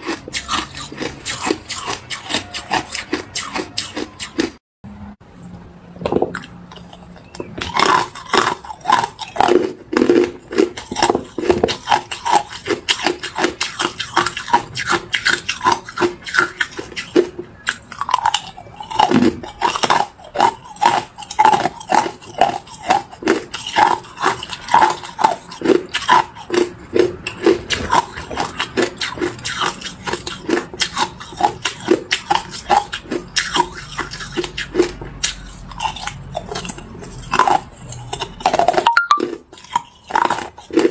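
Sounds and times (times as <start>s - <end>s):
ice cubes crunched in mouth: 7.6s - 40.9s.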